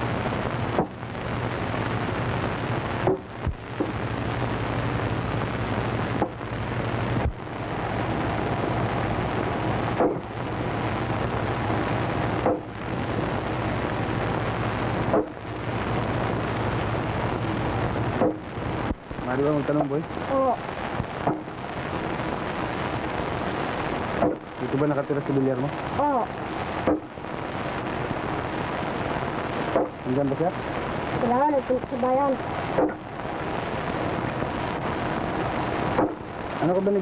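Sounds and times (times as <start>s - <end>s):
low hum: 0.0s - 37.0s
steady loud hiss: 0.0s - 37.0s.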